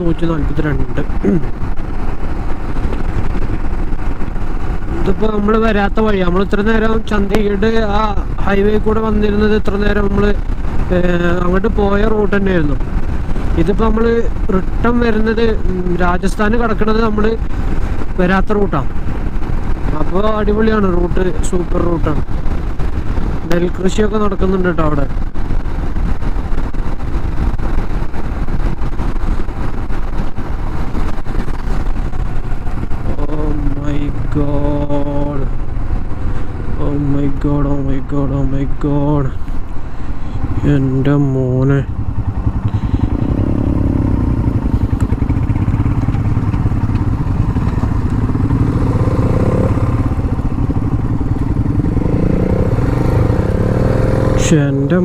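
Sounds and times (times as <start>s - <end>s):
motorcycle engine and road noise: 0.0s - 55.0s
wind rumble on microphone: 0.0s - 55.0s.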